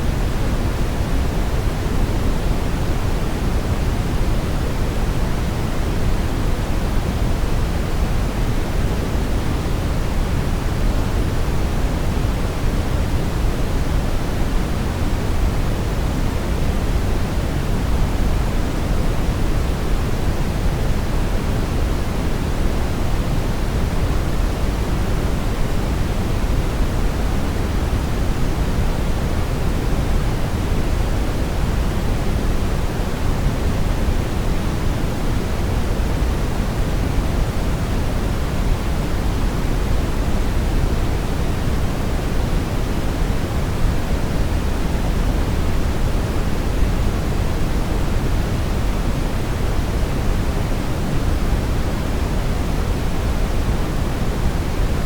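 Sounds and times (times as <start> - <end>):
low rumbling brown noise: 0.0 - 55.0.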